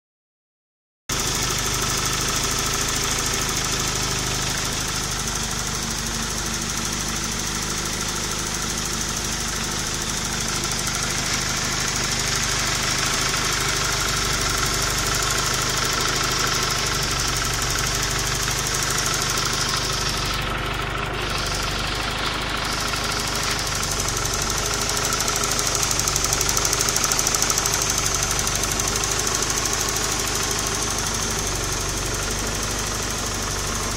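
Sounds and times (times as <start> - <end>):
vehicle engine idling: 1.1 - 33.9.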